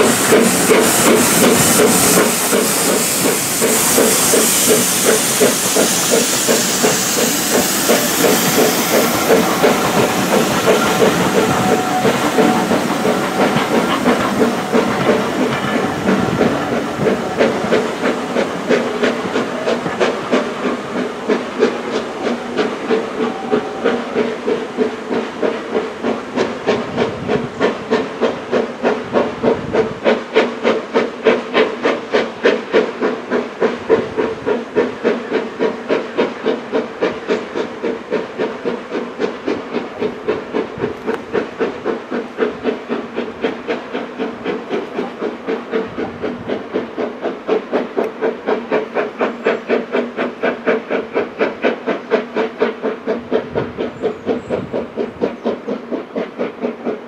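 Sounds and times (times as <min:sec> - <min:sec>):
loud steam hiss: 0:00.0 - 0:57.0
steam locomotive exhaust beats: 0:00.0 - 0:57.0.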